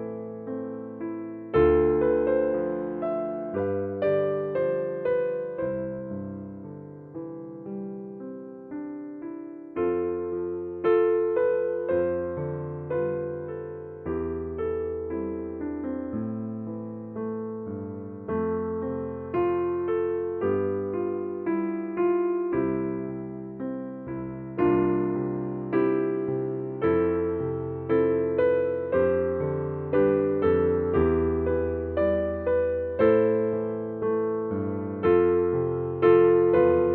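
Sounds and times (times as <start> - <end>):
slow gentle piano piece: 0.0 - 36.9.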